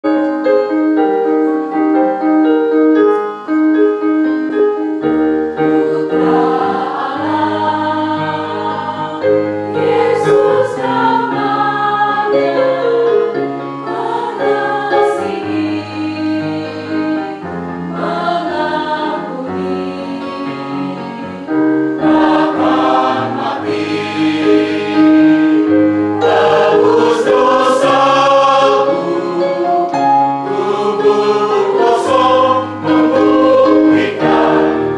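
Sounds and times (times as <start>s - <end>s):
choir singing a hymn: 4.5s - 34.9s.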